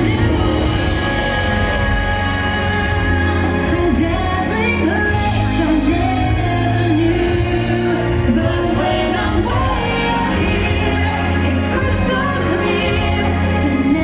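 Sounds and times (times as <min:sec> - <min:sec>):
pop music with singing: 0:00.0 - 0:14.0.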